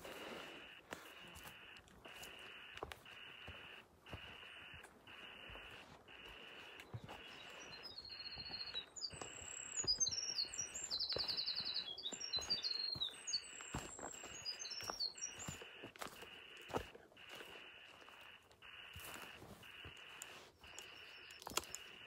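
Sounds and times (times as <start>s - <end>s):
footsteps on dirt trail: 0.0s - 22.0s
songbird singing trills: 1.1s - 22.0s.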